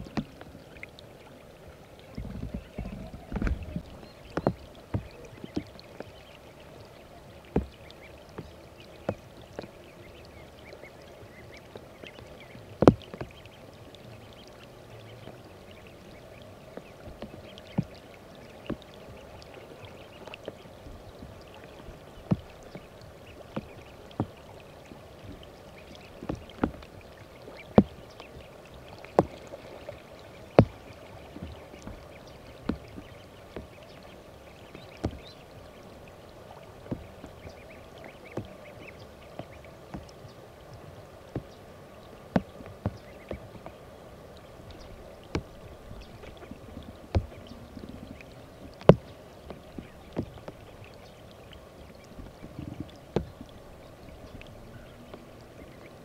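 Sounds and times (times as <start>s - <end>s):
faint rush of water: 0.0s - 56.0s
water dripping and splashing: 0.0s - 56.0s.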